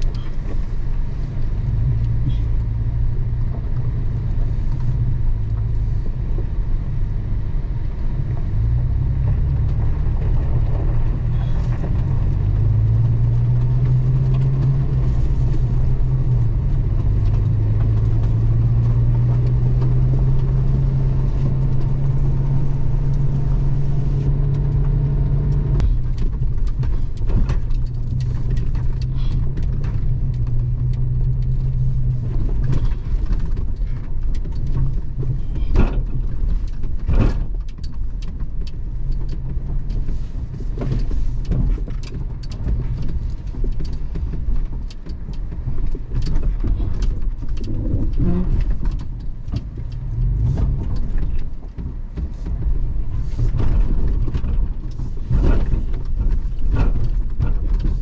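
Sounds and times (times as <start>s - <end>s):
car engine driving: 0.0s - 58.0s
gravel ticks: 0.0s - 58.0s
tyres on gravel track: 0.0s - 58.0s.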